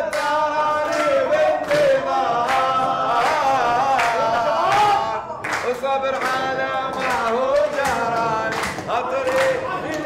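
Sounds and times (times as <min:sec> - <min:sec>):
hand claps: 0:00.0 - 0:10.0
man singing: 0:00.0 - 0:10.0.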